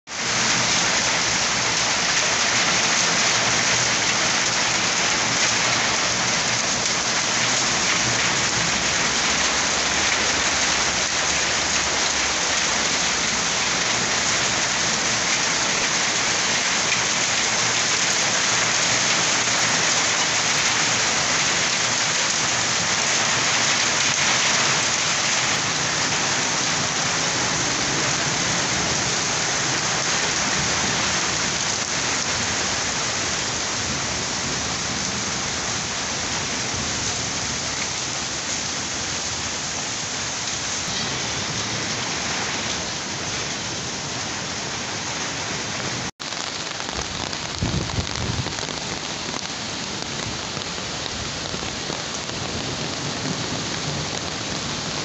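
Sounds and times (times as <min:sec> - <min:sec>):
rain and hail on concrete: 0:00.1 - 0:55.0.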